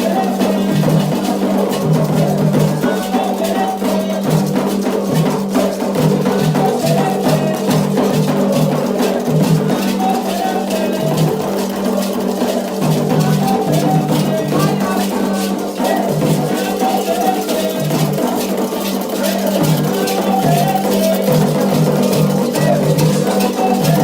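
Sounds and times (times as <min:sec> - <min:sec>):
hand drums beating: 0:00.0 - 0:24.0
person singing: 0:00.0 - 0:24.0.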